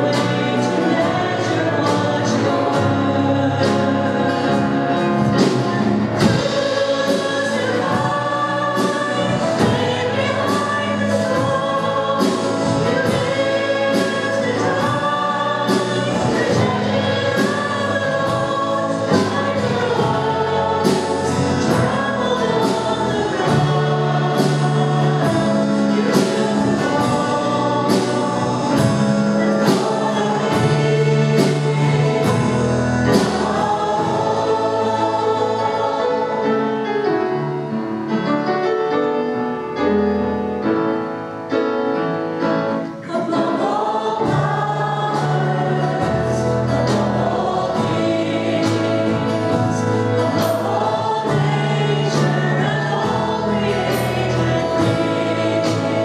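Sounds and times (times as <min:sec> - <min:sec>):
steady drum beat: 0:00.0 - 0:36.4, 0:43.2 - 0:56.0
choir singing: 0:00.0 - 0:56.0
worship band playing: 0:00.0 - 0:56.0.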